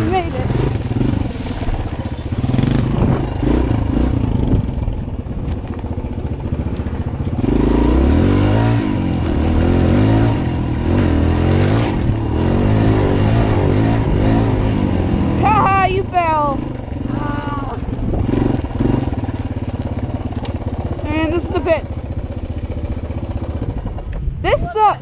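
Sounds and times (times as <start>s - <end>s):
dirt bike engine revving: 0.0s - 5.4s, 6.0s - 24.1s.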